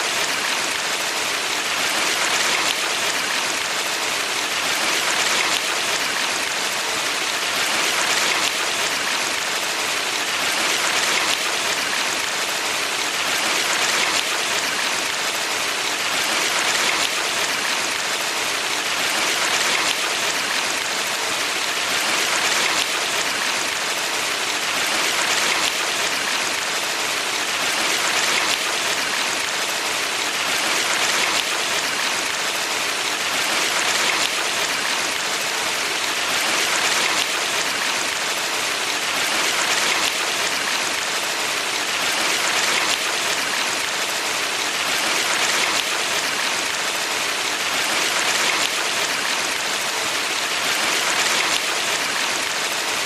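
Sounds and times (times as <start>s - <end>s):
stream rushing water: 0.0s - 53.0s.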